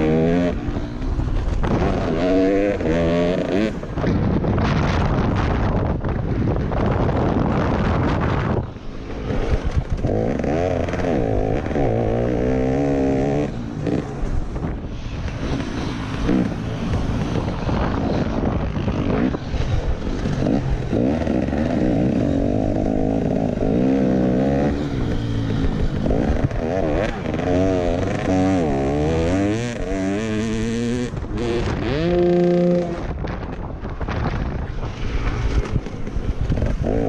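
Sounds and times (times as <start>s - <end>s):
motocross bike engine revving: 0.0s - 4.2s, 6.9s - 37.0s.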